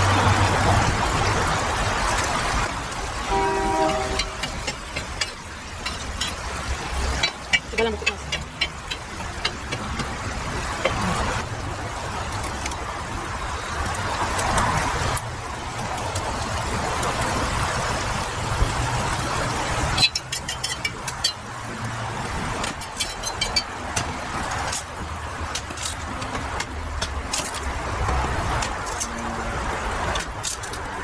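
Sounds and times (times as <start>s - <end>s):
fire crackles: 0.0s - 31.0s.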